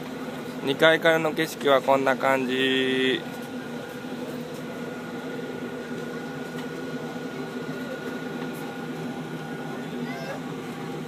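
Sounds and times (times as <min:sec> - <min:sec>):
ship machinery low drone: 0:00.0 - 0:11.0
thin steady whine: 0:00.0 - 0:11.0.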